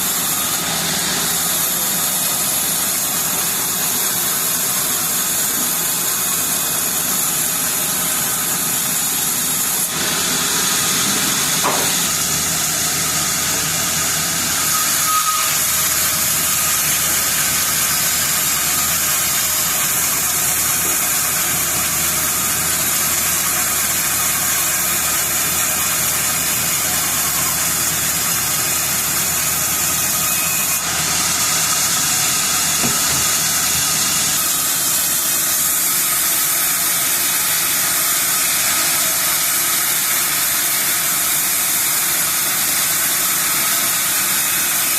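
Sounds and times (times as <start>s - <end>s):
sawmill saw running: 0.0s - 44.9s.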